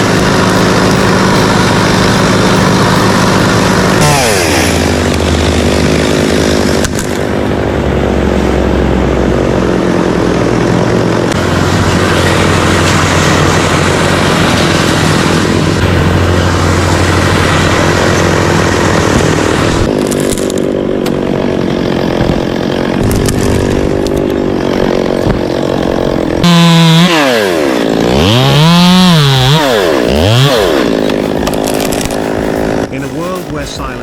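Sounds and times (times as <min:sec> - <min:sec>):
chainsaw engine at high revs: 0:00.0 - 0:07.5, 0:09.5 - 0:34.0.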